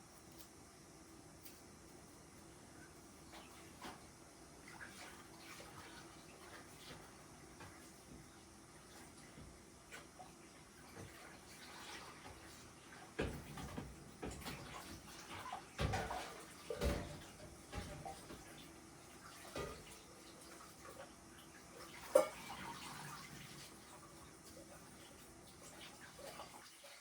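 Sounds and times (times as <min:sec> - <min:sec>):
water running from a tap: 0:04.6 - 0:27.0.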